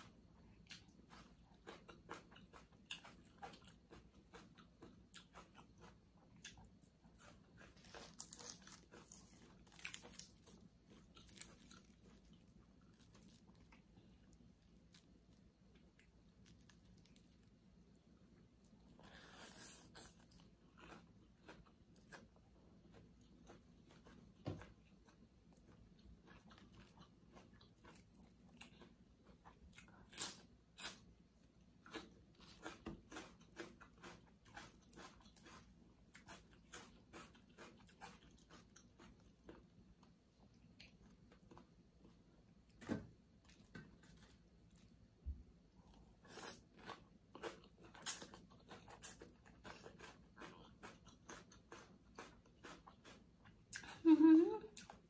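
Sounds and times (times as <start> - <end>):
person chewing crunchy food: 0.0 - 17.8, 18.4 - 45.2, 45.8 - 54.0.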